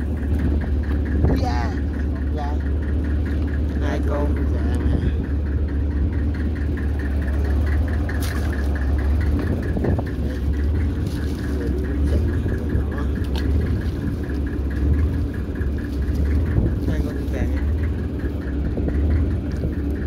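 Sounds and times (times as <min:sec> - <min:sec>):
boat engine humming and clattering: 0:00.0 - 0:20.0.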